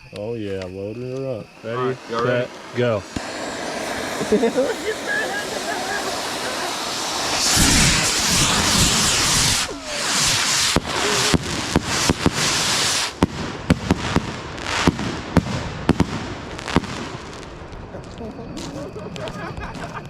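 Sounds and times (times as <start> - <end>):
firework bangs and cracks: 0.1 - 20.0
firework rushing hiss: 0.6 - 18.8.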